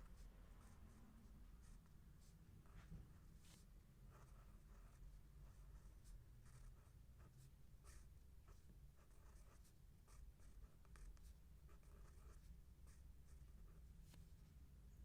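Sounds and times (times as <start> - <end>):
pen scratching on paper: 0.1 - 1.0, 1.6 - 14.2.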